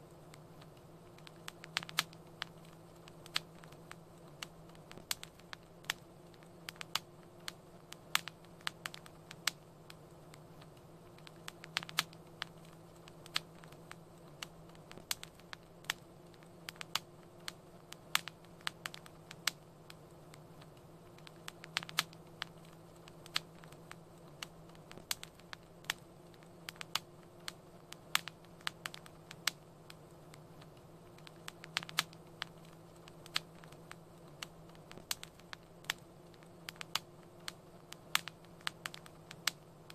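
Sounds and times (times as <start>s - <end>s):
soft hiss and low hum: 0.0s - 39.9s
wood fire crackling: 0.0s - 39.9s.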